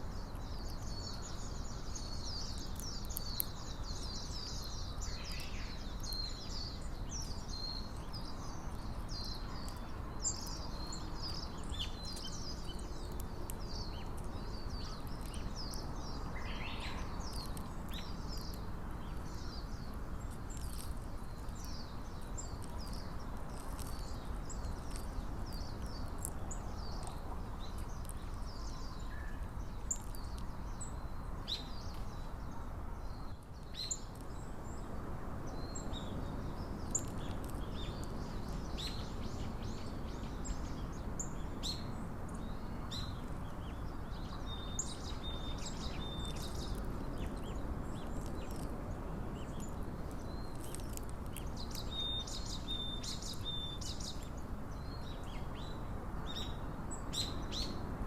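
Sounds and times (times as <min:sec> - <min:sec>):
outdoor ambient hiss: 0:00.0 - 0:58.0
small birds chirping: 0:00.0 - 0:58.0.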